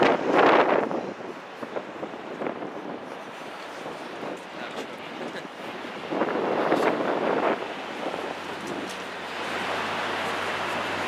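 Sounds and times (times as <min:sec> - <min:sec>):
bus road and engine noise: 0:00.0 - 0:11.0.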